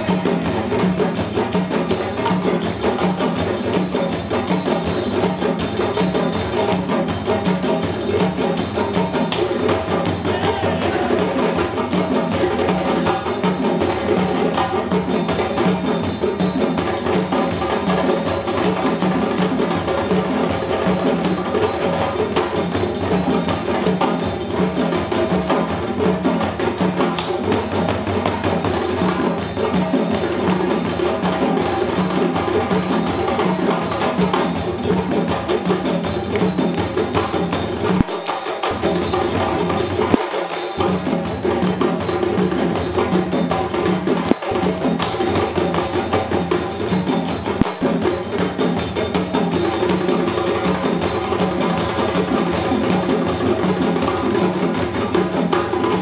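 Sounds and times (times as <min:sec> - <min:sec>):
hand drums and bass drums playing: 0:00.0 - 0:56.0.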